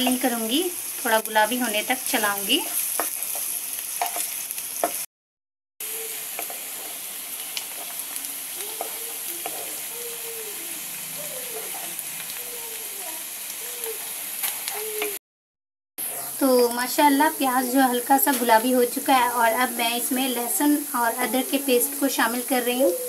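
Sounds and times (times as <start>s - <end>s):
onion sizzling in oil: 0.0s - 5.1s, 5.8s - 15.2s, 16.0s - 23.0s.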